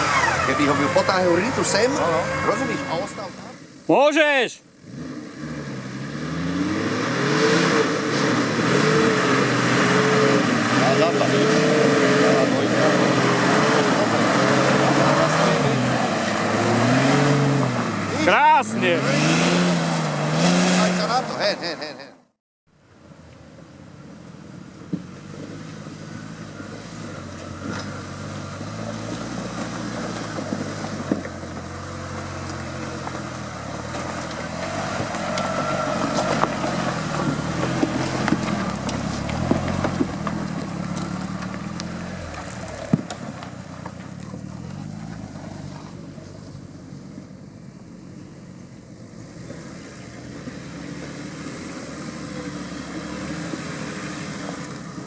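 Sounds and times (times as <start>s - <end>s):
vehicle engine revving: 0.0s - 3.8s, 4.7s - 22.0s, 25.0s - 55.0s.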